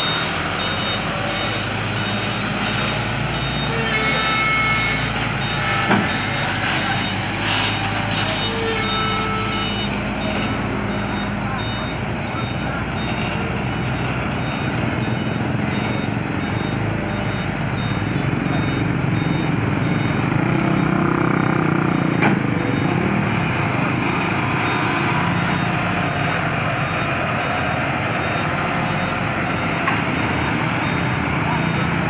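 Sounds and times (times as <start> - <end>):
diesel truck engine running: 0.0 - 32.0
reversing alarm beeping: 0.0 - 32.0.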